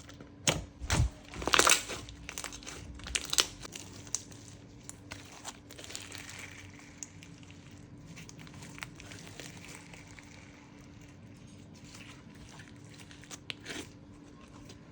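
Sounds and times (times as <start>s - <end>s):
wet slime squishing: 0.0s - 14.9s.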